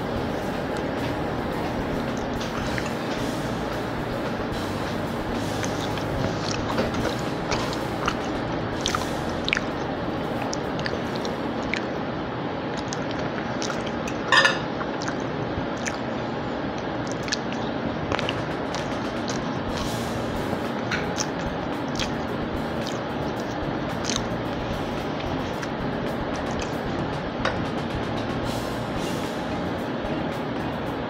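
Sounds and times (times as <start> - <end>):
wet chewing and mouth sounds: 0.1 - 12.0, 12.7 - 27.3.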